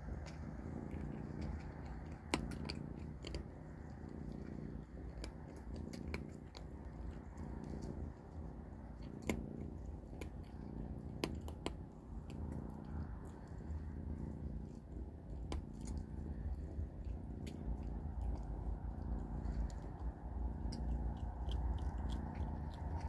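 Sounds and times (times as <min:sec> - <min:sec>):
kittens crunching dry kibble: 0:00.0 - 0:23.0
low steady rumble: 0:00.0 - 0:23.0.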